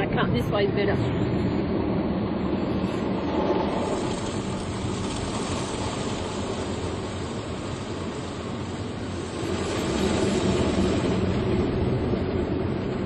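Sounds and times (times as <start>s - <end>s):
car wash machinery: 0.0s - 13.0s.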